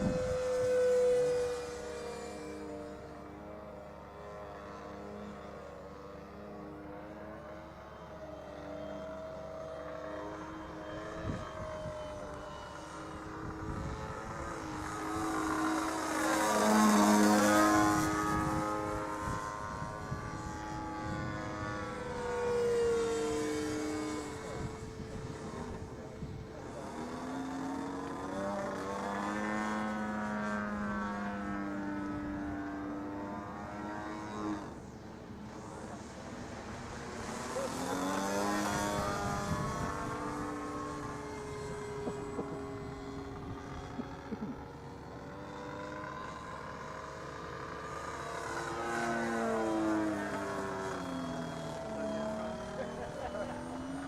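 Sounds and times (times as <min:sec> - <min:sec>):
model plane engine and propeller: 0:00.0 - 0:54.0.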